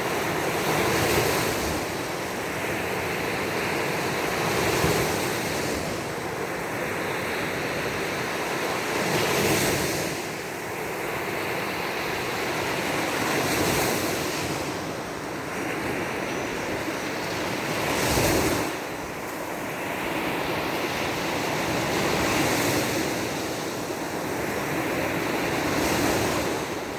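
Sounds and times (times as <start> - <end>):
surf breaking on a beach: 0.0 - 26.9.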